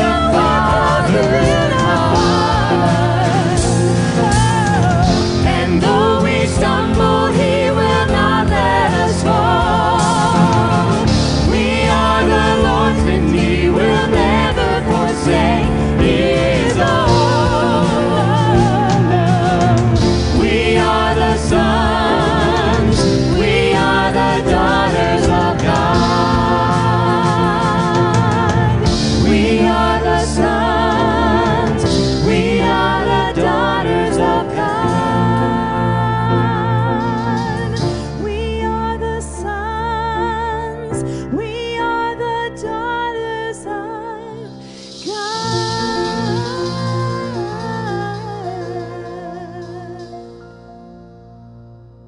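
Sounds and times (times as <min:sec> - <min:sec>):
band playing: 0:00.0 - 0:39.0, 0:44.5 - 0:51.0
women singing with vibrato: 0:00.0 - 0:50.4.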